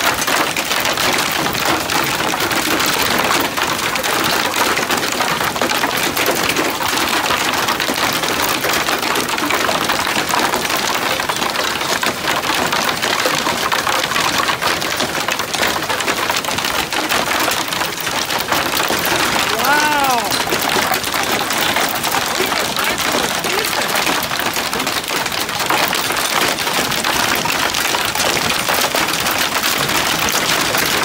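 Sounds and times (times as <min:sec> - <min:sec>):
hail clattering: 0:00.0 - 0:31.0.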